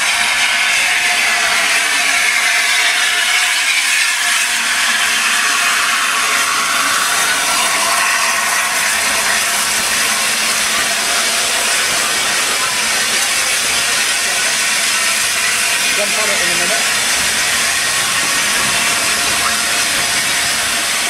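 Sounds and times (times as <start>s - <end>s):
steam locomotive rolling past: 0.0s - 21.0s.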